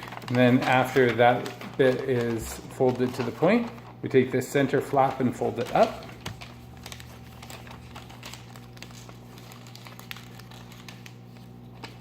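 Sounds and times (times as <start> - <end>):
paper being folded: 0.0 - 12.0.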